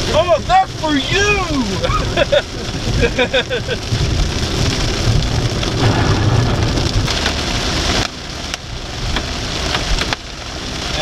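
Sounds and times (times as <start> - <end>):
heavy rain on a car: 0.0 - 11.0
road and tyre noise: 0.0 - 11.0.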